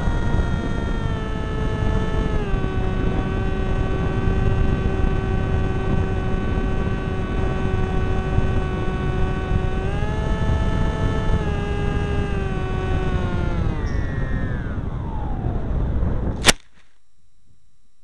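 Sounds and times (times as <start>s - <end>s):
wind noise on microphone: 0.0s - 16.5s
motor and propeller whine: 0.0s - 16.6s.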